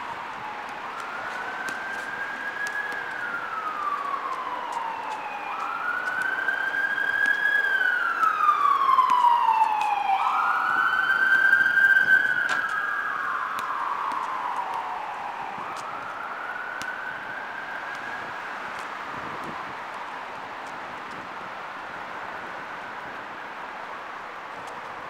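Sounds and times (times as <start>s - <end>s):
emergency siren wailing: 0.0s - 20.4s.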